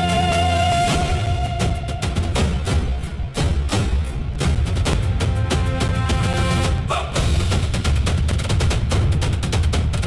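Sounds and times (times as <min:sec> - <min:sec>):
music with fast drum beat: 0:00.0 - 0:10.0.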